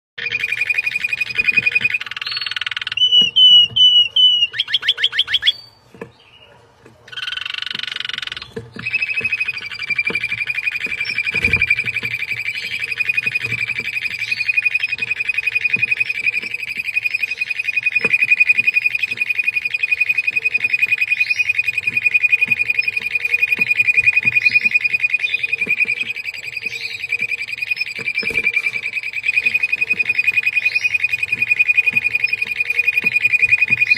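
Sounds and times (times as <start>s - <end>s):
canaries singing trills: 0.2s - 33.9s.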